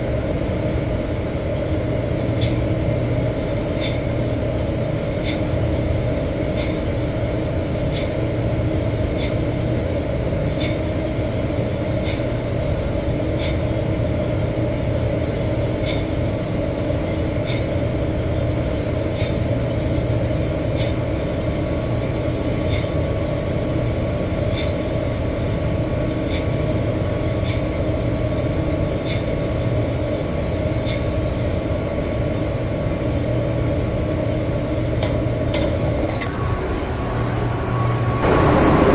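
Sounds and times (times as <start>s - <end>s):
spray booth mechanical roar: 0.0s - 38.9s.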